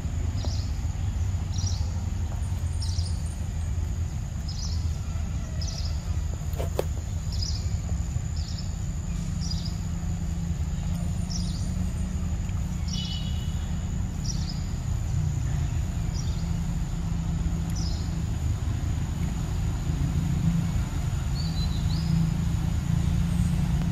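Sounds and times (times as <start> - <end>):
bird chirping: 0.1 - 18.7, 20.6 - 23.9.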